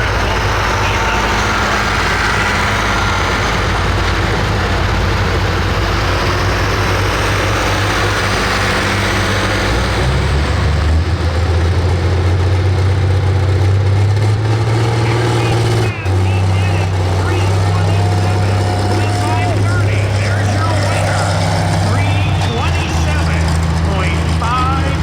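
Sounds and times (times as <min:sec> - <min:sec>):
diesel tractor engine roaring: 0:00.0 - 0:25.0.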